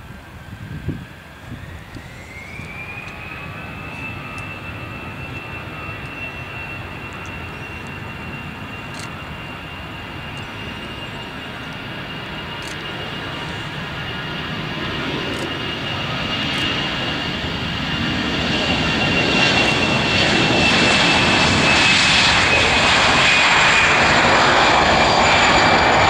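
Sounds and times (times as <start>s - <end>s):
jet engines spooling up: 0.1s - 26.0s.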